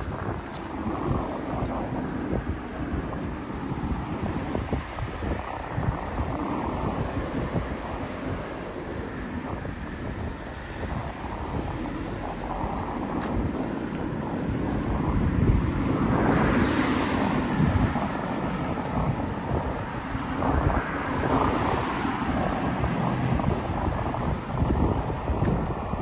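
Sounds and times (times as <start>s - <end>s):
road traffic passing: 0.0s - 26.0s
wind buffeting microphone: 0.0s - 26.0s.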